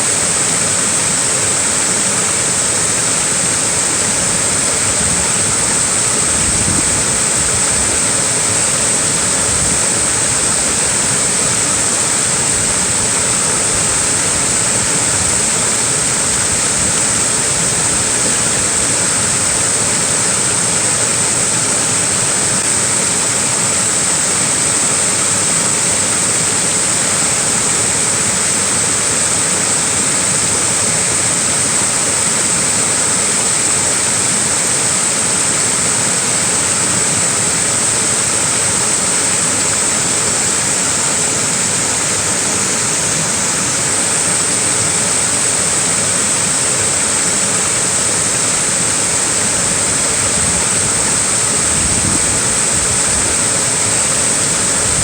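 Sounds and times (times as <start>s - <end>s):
small waterfall splashing: 0.0s - 55.0s.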